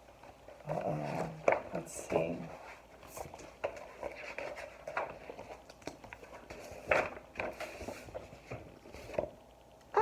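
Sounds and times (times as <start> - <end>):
book page turning: 0.8 - 9.4.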